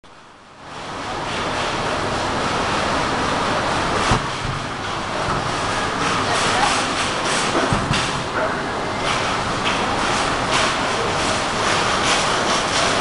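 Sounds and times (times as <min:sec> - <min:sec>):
shopping centre hall background noise: 0:00.3 - 0:13.0.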